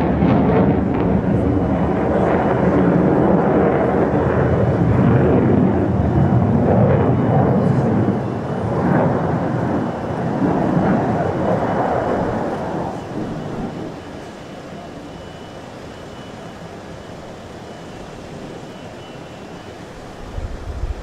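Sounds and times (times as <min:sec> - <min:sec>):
fighter jet engine rumble: 0:00.0 - 0:21.0.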